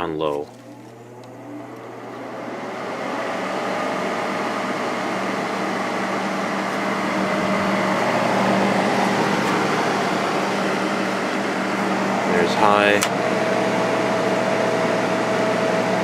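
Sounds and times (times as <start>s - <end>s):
air conditioner fan humming: 0.0s - 16.0s.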